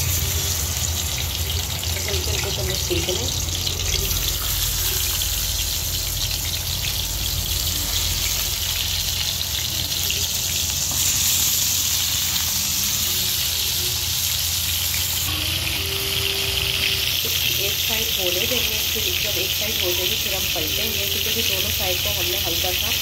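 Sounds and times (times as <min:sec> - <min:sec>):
fish sizzling in frying pan: 0:00.0 - 0:23.0
low steady hum: 0:00.0 - 0:23.0.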